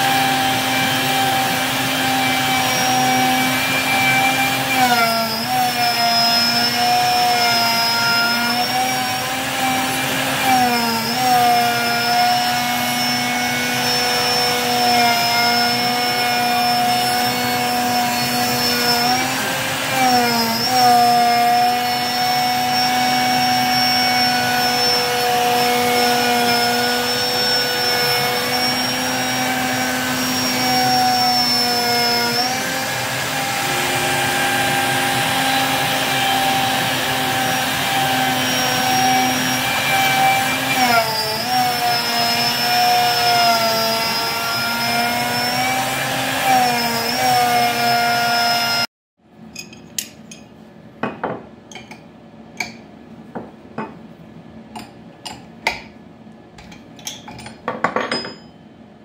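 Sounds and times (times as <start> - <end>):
dust collection vacuum: 0.0 - 48.8
router spindle whine: 0.0 - 48.9.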